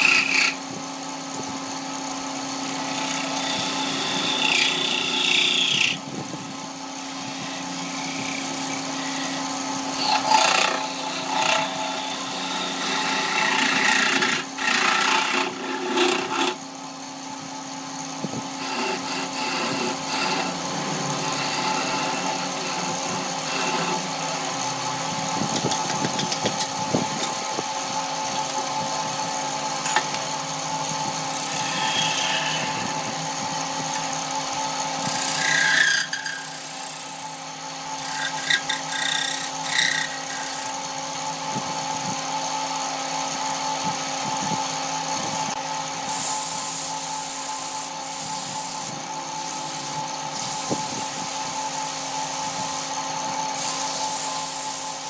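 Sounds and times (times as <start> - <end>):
gouge cutting spinning wood: 0.0 - 55.0
lathe motor hum: 0.0 - 55.0.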